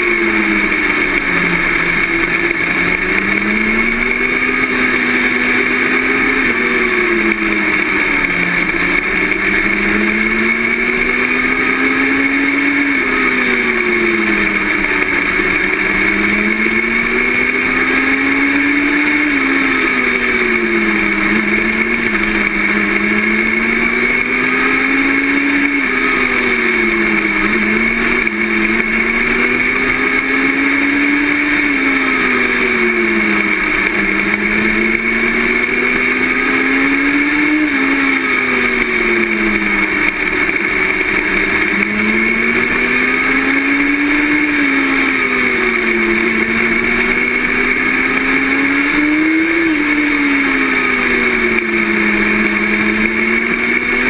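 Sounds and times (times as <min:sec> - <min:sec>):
race car engine rising and falling: 0:00.0 - 0:54.0.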